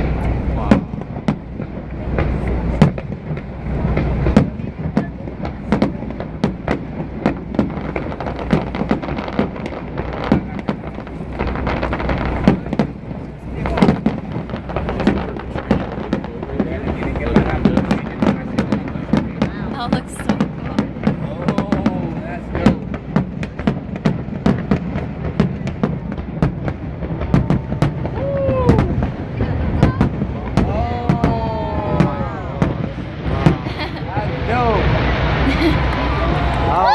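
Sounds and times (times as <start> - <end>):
fireworks banging: 0.0 - 36.9
low rumble: 0.0 - 36.9.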